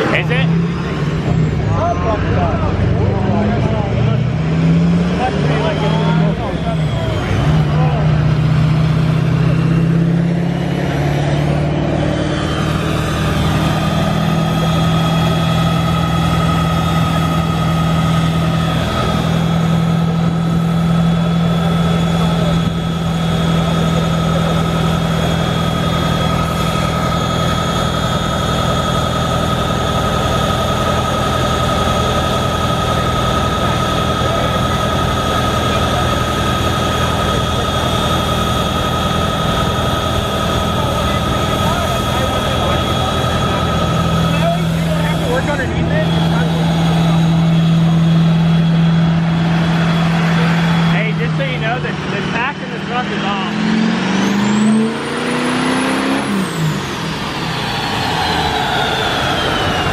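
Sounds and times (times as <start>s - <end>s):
diesel truck engine running: 0.0s - 59.9s
high whine: 0.0s - 59.9s.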